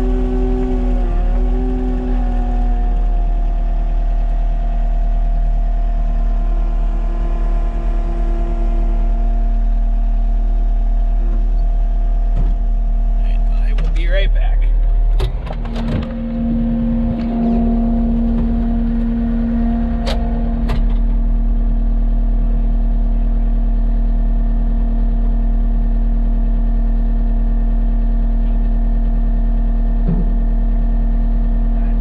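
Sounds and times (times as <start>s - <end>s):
vehicle engine running steadily: 0.0s - 32.0s.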